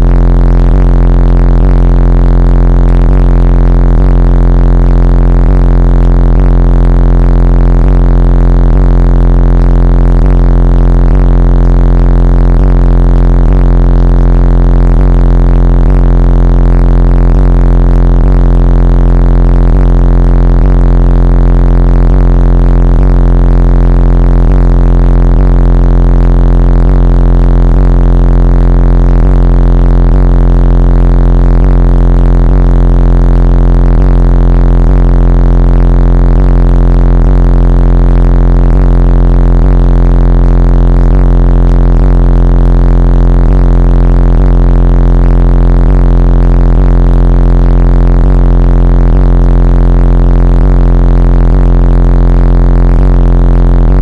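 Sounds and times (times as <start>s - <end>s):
loud bass-heavy car stereo music: 0.0s - 54.0s.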